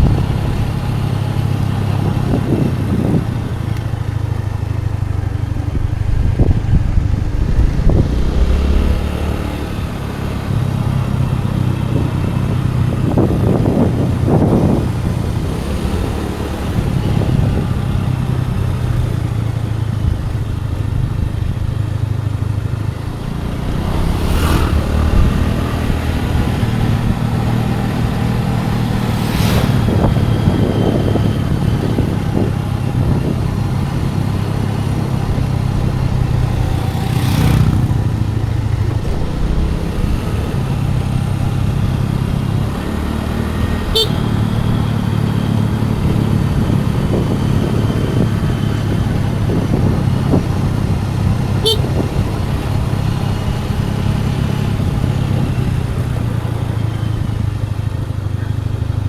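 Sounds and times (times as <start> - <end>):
scooter engine running: 0.0 - 59.0
wind and road noise: 0.0 - 59.0.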